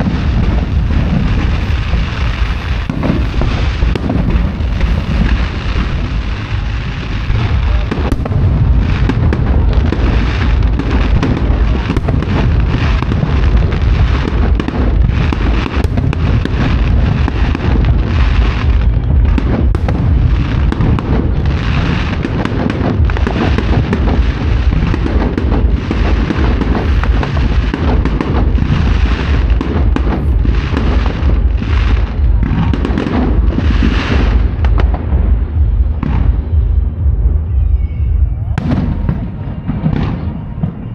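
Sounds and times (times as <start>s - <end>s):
fireworks booming: 0.0s - 40.9s.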